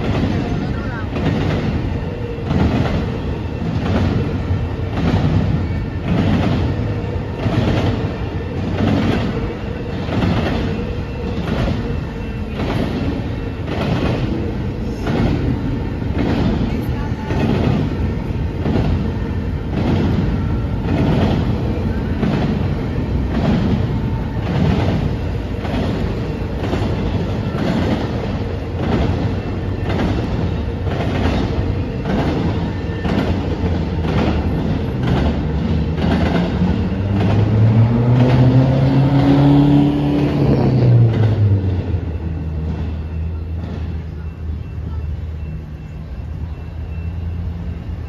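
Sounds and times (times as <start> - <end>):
locomotive engine: 0.0 - 48.0
train wheels clacking: 0.0 - 48.0.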